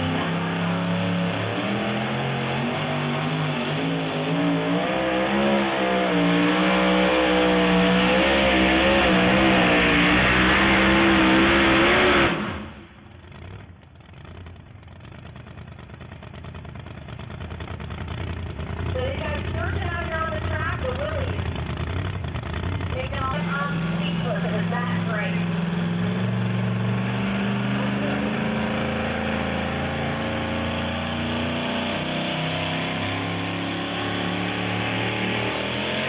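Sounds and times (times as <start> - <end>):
truck engine at full throttle: 0.0 - 36.0.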